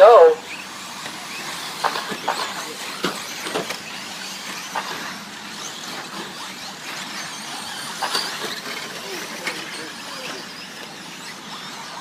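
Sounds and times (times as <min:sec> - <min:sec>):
rc truck motor whine: 0:00.0 - 0:12.0.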